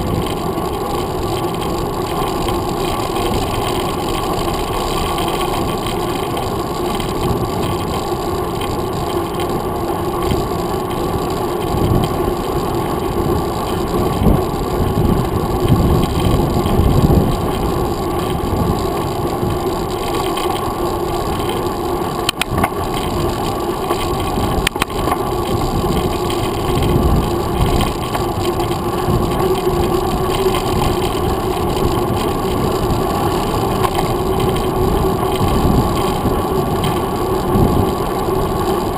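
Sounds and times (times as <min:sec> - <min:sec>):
bike tyre rumble on pavement: 0:00.0 - 0:38.9
wind noise: 0:00.0 - 0:38.9.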